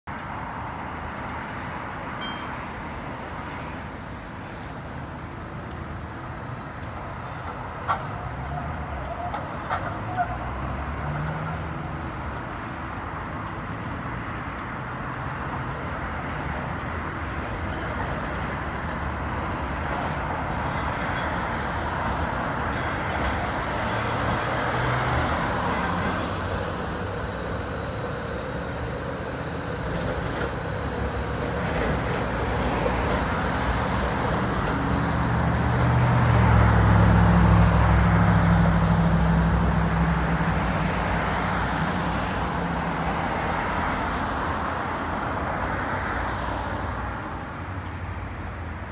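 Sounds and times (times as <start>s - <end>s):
street traffic: 0.0s - 48.9s
cars passing with low rumble: 0.1s - 48.9s
tram whining past: 3.6s - 48.6s.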